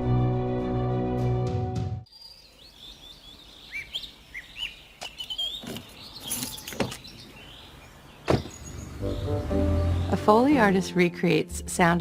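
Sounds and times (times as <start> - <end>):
birds chirping: 2.1 - 11.9.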